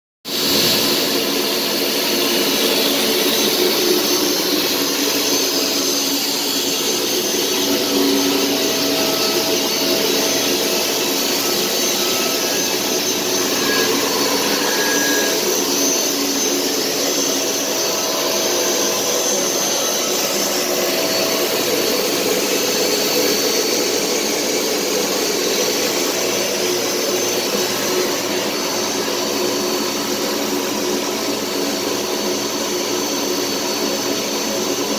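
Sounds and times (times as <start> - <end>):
steady mechanical whir with hiss: 0.3 - 34.9.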